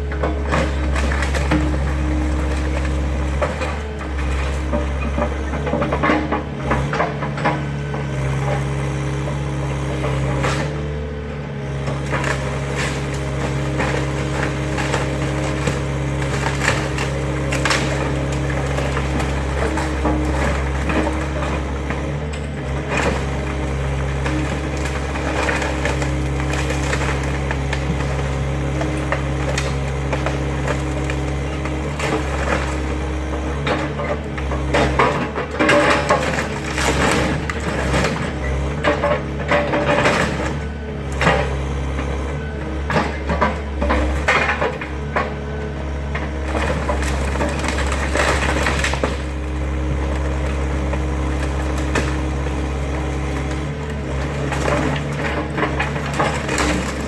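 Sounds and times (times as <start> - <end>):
excavator engine running: 0.0 - 57.0
timber cracking and splintering: 0.2 - 57.0.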